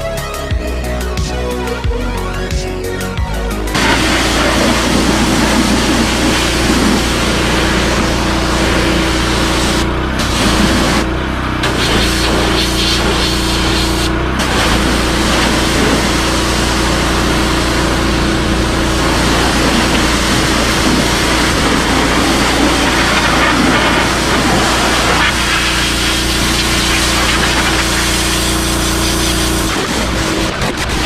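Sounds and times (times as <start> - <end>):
pressure washer jet hissing: 3.8 - 30.5.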